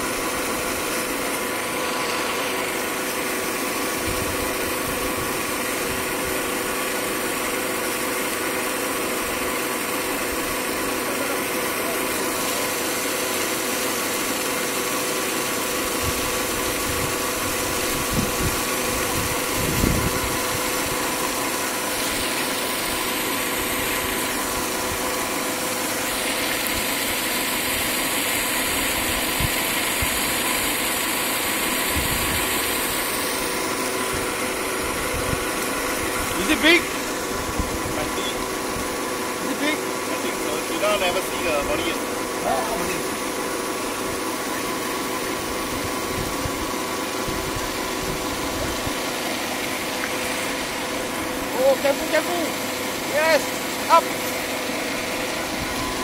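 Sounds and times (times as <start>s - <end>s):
pond aerator hum: 0.0s - 56.0s
spraying water hiss: 0.0s - 56.0s.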